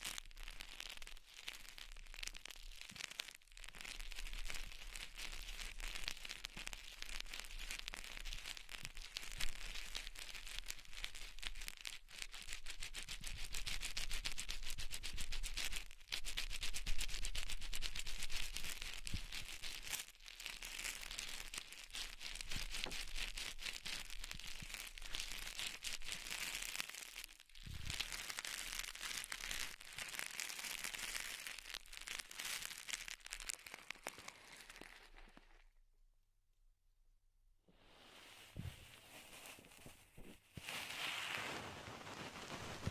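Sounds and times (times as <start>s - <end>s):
close crinkling and crackling: 0.0s - 35.7s, 38.0s - 42.9s.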